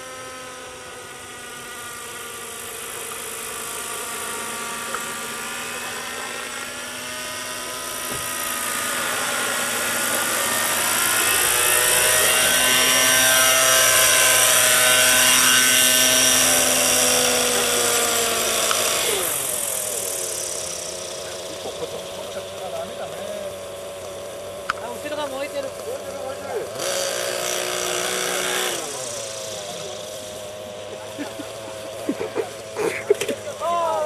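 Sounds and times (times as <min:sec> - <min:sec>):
model helicopter rotor whine: 0:00.0 - 0:34.0.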